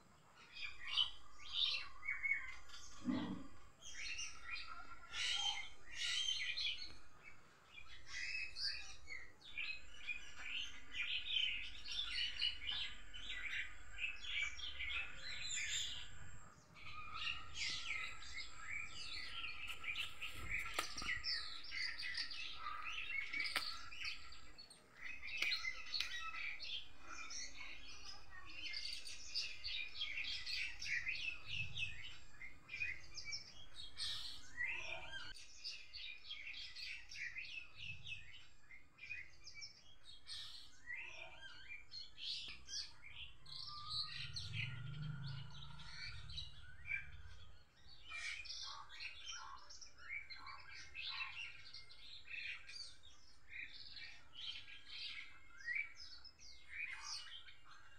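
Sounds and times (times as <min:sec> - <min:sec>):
chorus of birds chirping: 0:00.0 - 0:57.9.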